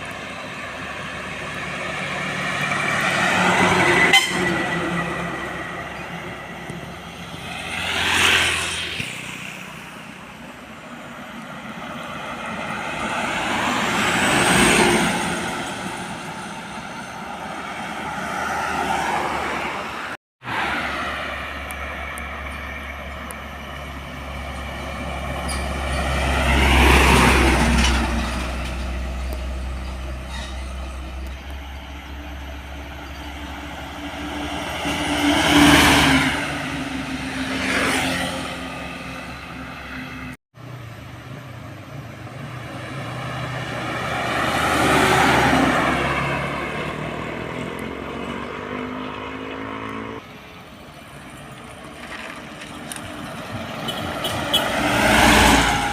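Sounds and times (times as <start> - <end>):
trucks driving past: 0.0 - 55.9.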